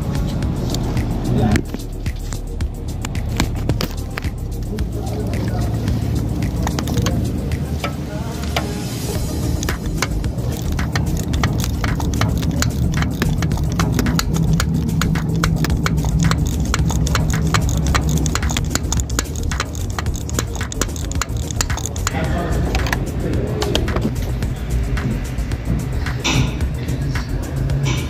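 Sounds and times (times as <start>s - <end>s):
steady low hum: 0.0s - 28.0s
hand ratchet clicking: 0.2s - 8.0s, 9.2s - 28.0s.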